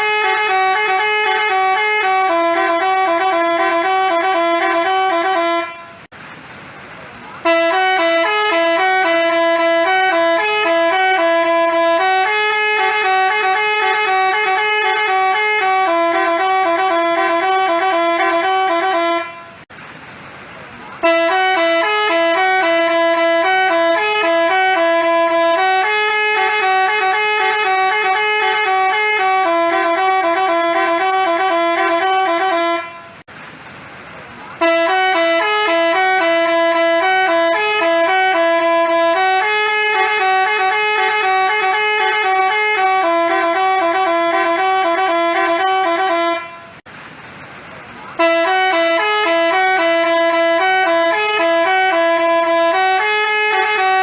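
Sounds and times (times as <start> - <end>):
musical bus horn tune: 0.0 - 6.2, 7.4 - 19.7, 21.0 - 33.3, 34.6 - 46.9, 48.1 - 54.0.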